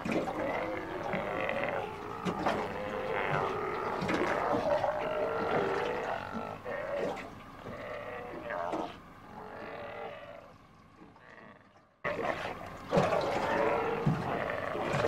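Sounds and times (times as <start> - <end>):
sea lions calling: 0.0 - 15.0.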